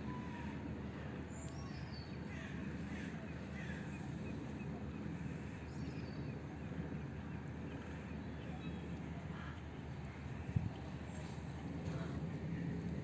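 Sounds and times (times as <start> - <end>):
faint bird calls: 0.0 - 12.7.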